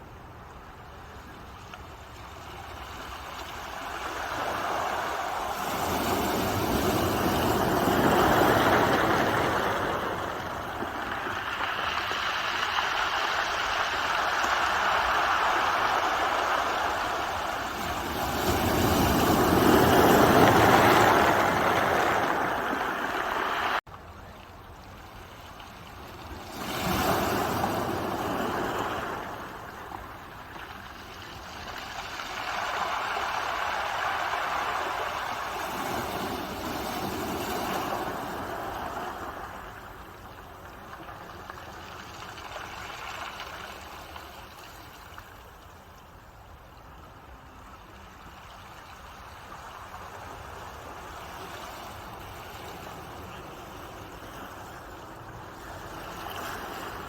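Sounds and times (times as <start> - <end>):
ocean waves breaking on shore: 0.0 - 23.8, 25.0 - 57.0.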